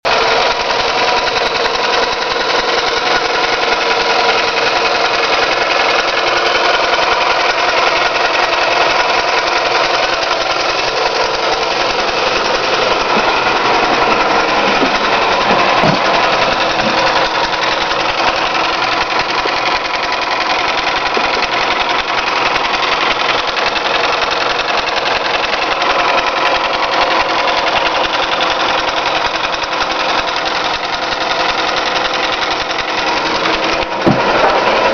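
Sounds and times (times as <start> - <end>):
car engine running: 0.0 - 34.9
engine knocking: 0.0 - 34.9.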